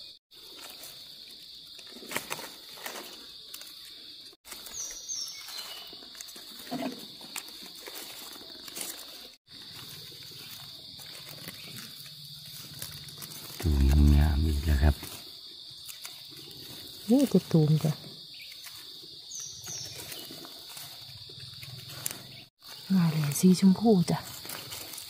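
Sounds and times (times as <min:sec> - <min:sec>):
insects droning: 0:00.0 - 0:25.0
rustling and crunching: 0:00.0 - 0:25.0.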